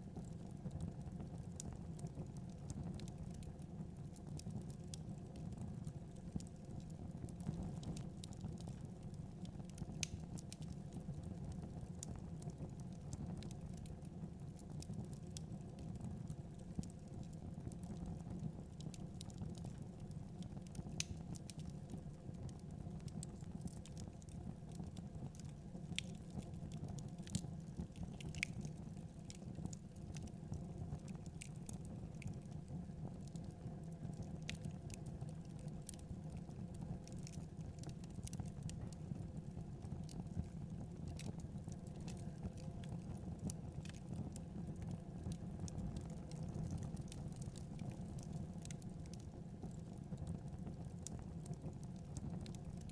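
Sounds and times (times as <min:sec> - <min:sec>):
fireplace fire crackling and popping: 0:00.0 - 0:52.9.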